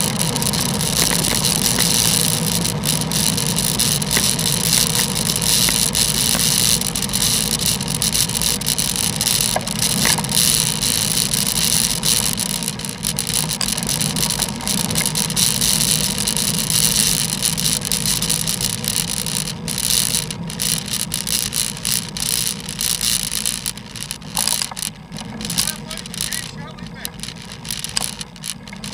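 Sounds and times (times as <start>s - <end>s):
motor traffic rumble: 0.0s - 28.9s.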